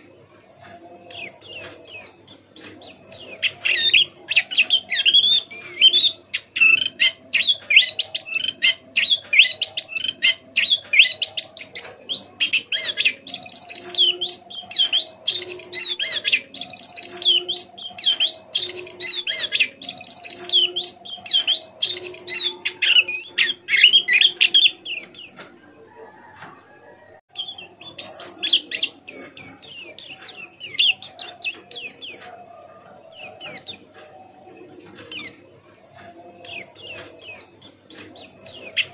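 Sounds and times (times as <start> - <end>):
bird twittering high chirps: 1.1 - 25.4, 27.3 - 32.3, 36.4 - 38.9.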